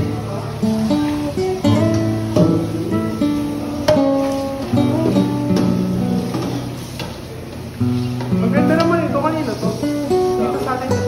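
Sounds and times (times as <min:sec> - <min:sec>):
acoustic guitar melody: 0:00.0 - 0:11.0.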